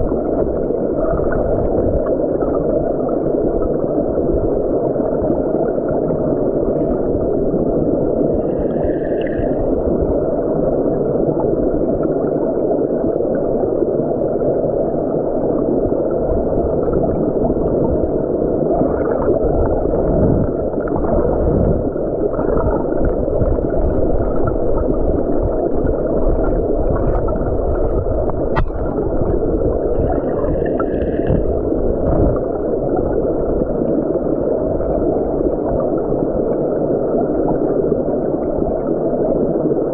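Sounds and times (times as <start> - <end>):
muffled underwater stream rush: 0.0 - 39.9.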